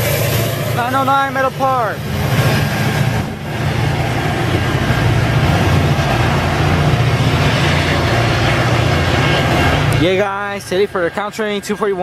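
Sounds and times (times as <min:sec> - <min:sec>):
diesel locomotive engine rumble: 0:00.0 - 0:12.0
train on rails: 0:00.0 - 0:12.0.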